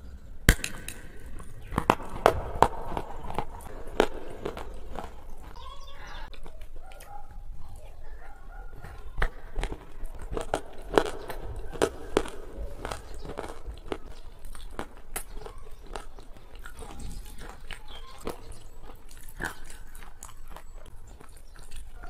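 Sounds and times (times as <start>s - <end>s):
mouth clicks: 0.0s - 22.0s
person chewing with wet smacks: 0.5s - 22.0s.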